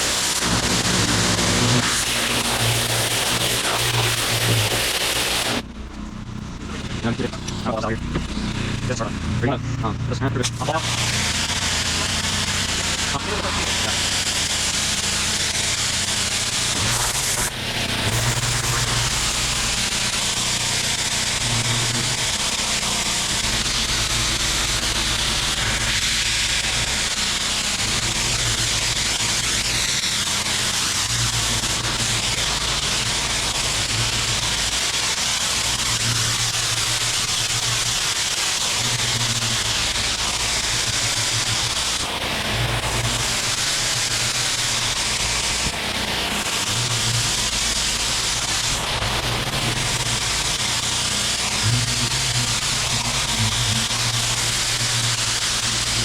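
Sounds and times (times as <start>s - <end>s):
pressure washer engine drone: 0.0s - 56.0s
water spray hissing: 0.0s - 56.0s.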